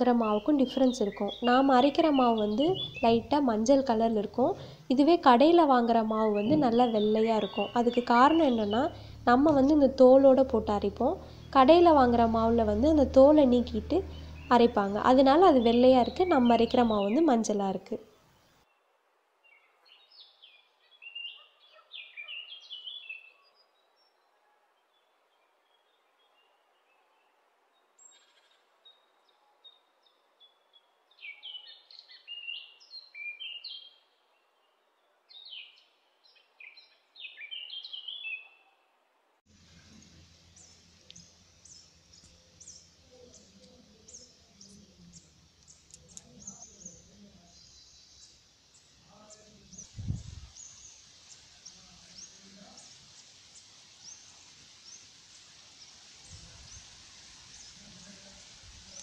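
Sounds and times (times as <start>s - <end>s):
small birds chirping: 0.0s - 18.8s, 19.4s - 24.2s, 28.0s - 34.5s, 35.3s - 38.6s, 39.5s - 59.0s.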